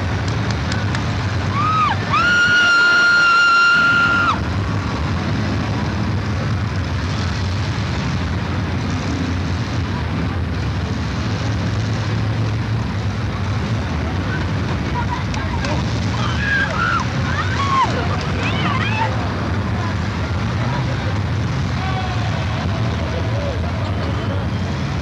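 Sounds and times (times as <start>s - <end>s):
car engines rumbling: 0.0s - 25.0s.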